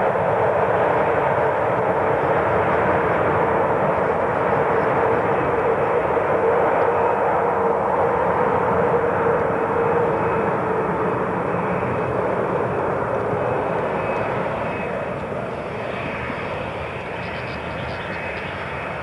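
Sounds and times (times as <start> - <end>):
airliner engines droning: 0.0 - 19.0.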